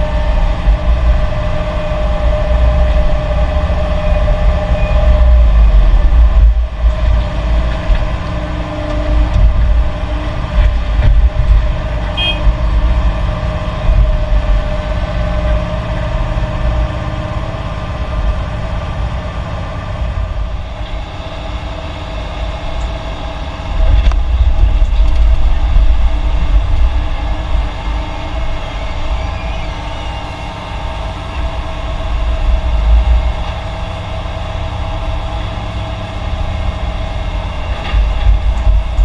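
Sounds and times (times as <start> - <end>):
diesel machinery rumbling and whining: 0.0 - 39.0.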